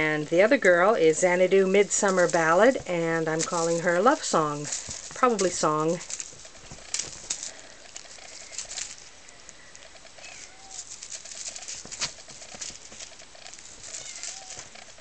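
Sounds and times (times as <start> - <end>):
kitten paws tapping and scratching: 0.4 - 15.0
toy rustling: 1.2 - 15.0.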